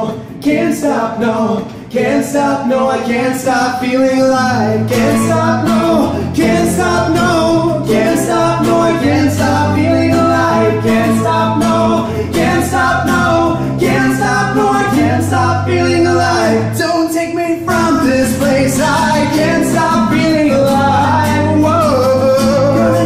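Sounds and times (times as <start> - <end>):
acoustic guitar strumming: 0.0 - 17.0, 17.6 - 23.0
men singing: 0.0 - 23.0.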